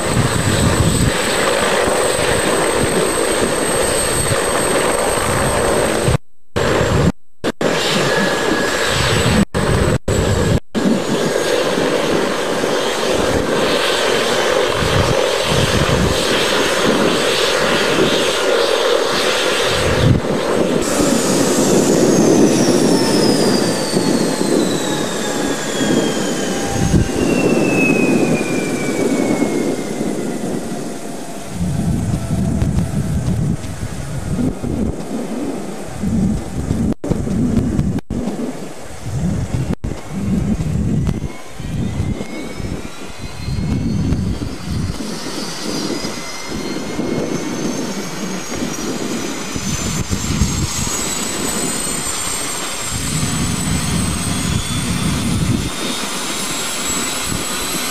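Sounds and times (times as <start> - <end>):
helicopter rotor noise: 0.0 - 57.9
high turbine whine: 0.0 - 57.9.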